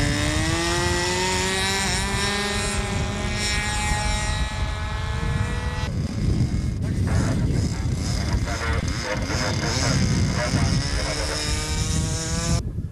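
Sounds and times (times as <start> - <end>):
model airplane engine whine: 0.0 - 12.6.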